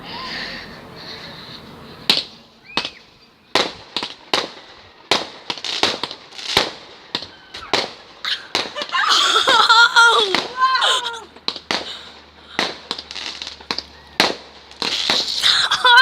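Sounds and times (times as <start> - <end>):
wavering pitched fireworks sounds: 0.0 - 16.0
fireworks bangs: 0.8 - 16.0.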